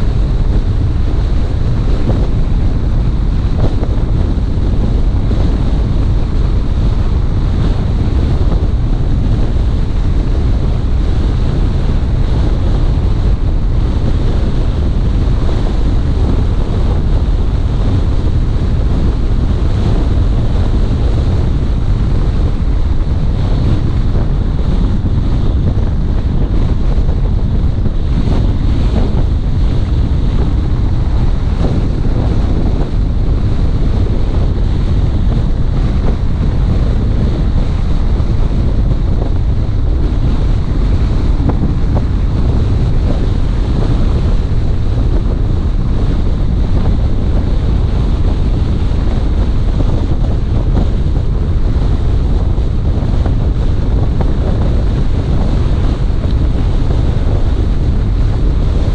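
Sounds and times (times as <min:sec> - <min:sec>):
car driving rumble: 0:00.0 - 0:48.9
wind buffeting microphone: 0:00.0 - 0:58.9.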